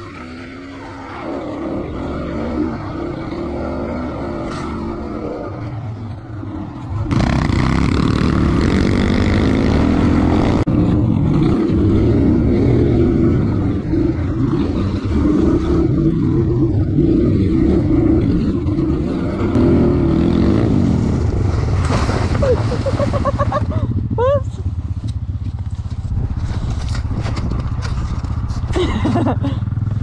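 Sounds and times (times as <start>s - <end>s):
dirt bike engine revving: 0.0s - 28.3s.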